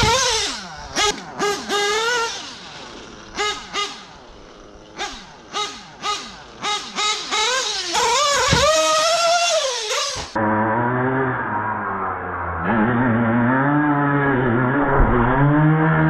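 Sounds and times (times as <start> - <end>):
model car engine revving: 0.0 - 16.0.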